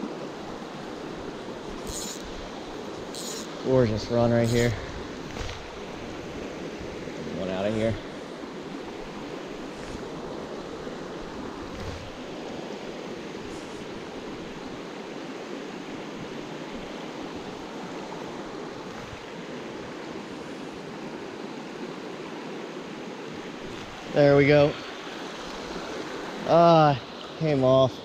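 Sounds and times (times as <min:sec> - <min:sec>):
stream running over stones: 0:00.0 - 0:21.1, 0:21.8 - 0:28.0.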